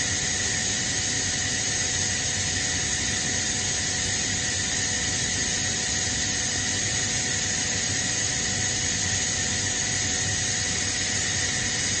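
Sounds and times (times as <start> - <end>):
air compressor running: 0.0 - 12.0
high-pitched whine: 0.0 - 12.0.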